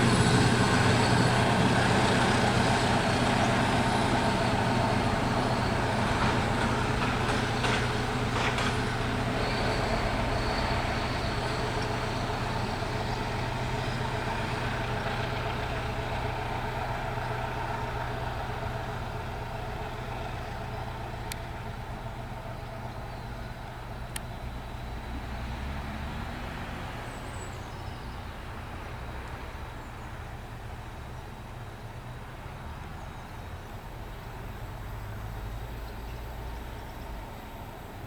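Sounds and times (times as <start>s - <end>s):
diesel locomotive engine: 0.0s - 38.0s.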